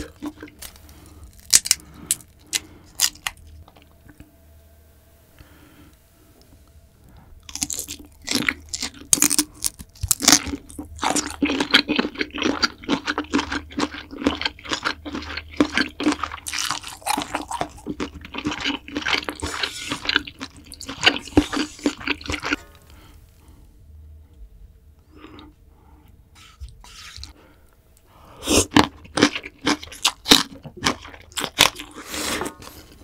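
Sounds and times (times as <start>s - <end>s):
crunchy chewing: 0.0s - 4.2s, 7.4s - 23.1s, 25.1s - 33.0s.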